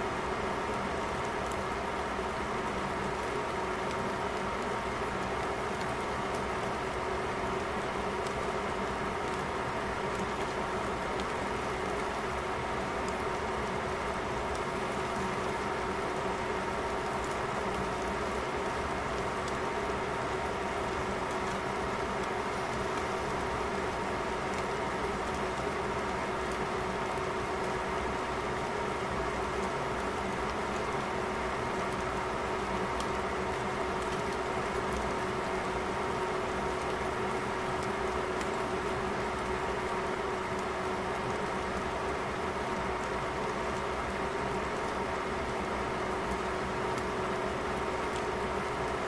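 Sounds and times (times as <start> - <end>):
fan hum with whine: 0.0 - 49.0
pot simmering and bubbling: 0.0 - 49.0.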